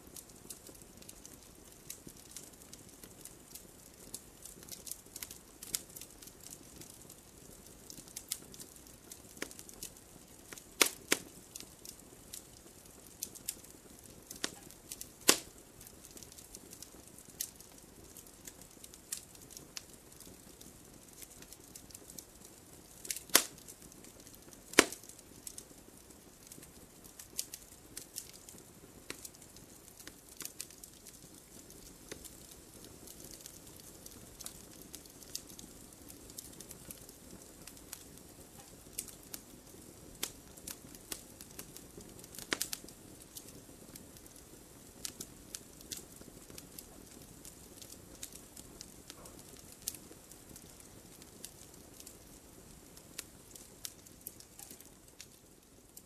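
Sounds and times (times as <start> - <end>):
campfire crackling: 0.0 - 56.0
faint steady hiss: 0.0 - 56.0.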